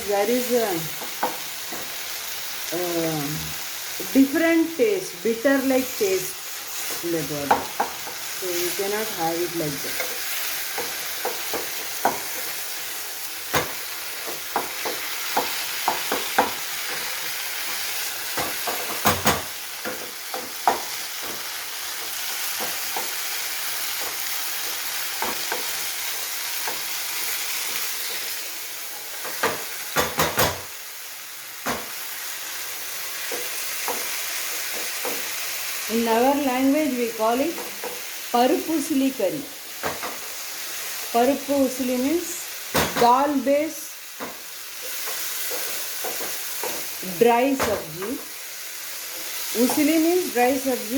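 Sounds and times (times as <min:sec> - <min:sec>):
food sizzling in hot oil: 0:00.0 - 0:50.9.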